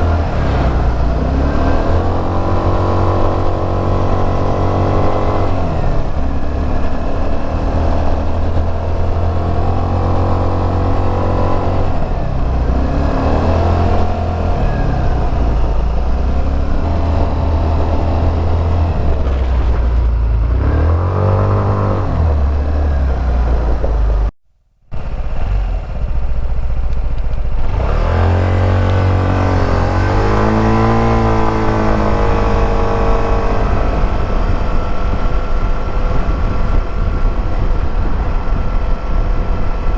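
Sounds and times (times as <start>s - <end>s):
scooter engine and exhaust: 0.0s - 24.3s, 24.9s - 39.9s.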